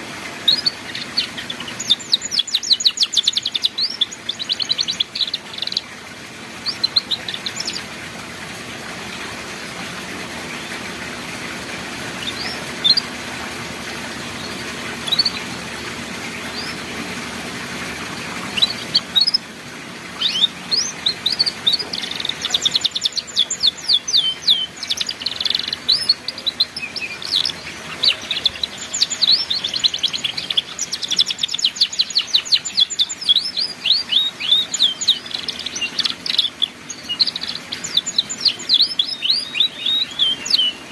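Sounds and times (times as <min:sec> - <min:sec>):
canary chirping and trilling: 0:00.0 - 0:08.0, 0:10.4 - 0:19.4, 0:20.2 - 0:40.9.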